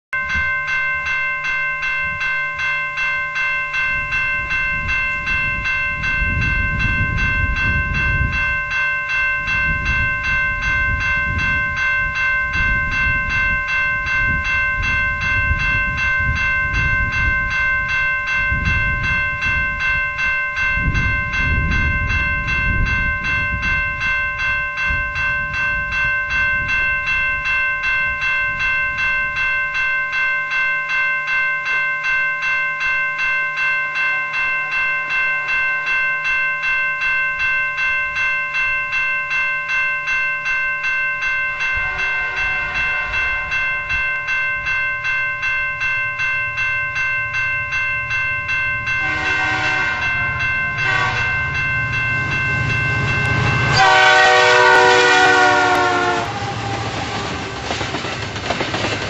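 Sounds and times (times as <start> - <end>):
level-crossing warning bell ringing: 0.2 - 59.0.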